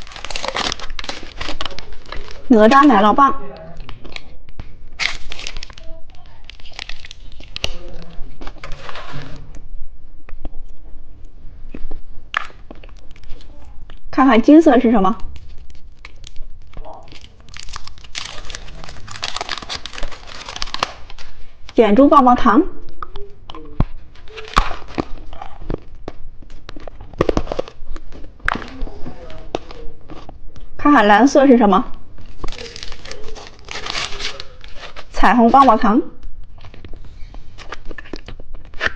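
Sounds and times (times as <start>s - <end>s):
plastic wrappers crinkling: 0.0s - 9.5s, 11.7s - 14.1s, 15.2s - 21.8s, 22.9s - 30.7s, 32.1s - 38.9s.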